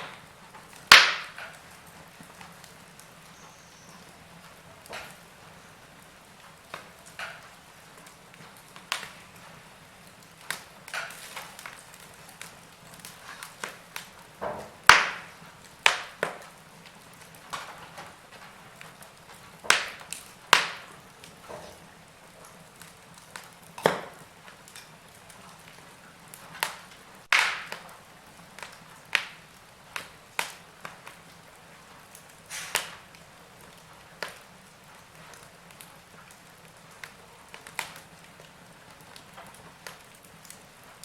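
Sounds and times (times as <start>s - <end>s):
faint steady hiss: 0.0s - 41.0s
wood fire crackling and popping: 0.0s - 41.0s.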